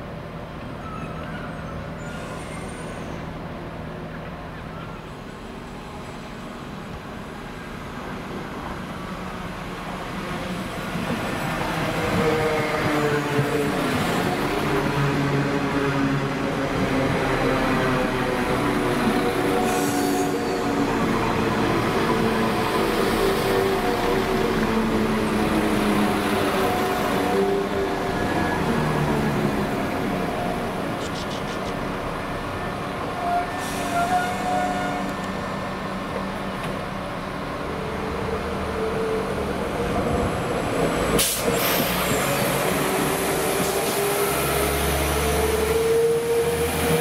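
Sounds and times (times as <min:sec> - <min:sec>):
diesel train engine hum: 0:00.0 - 0:47.0
rail noise: 0:00.0 - 0:47.0.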